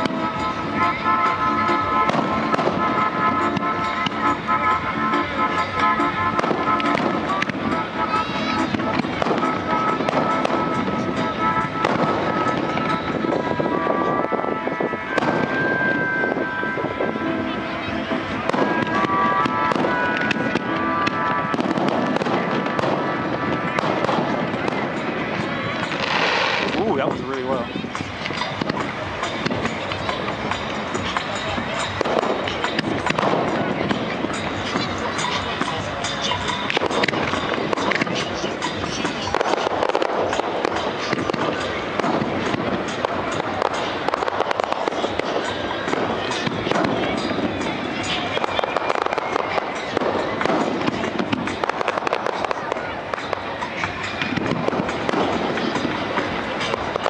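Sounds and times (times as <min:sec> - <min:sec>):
background music: 0:00.0 - 0:57.0
fireworks bursting: 0:00.0 - 0:57.0.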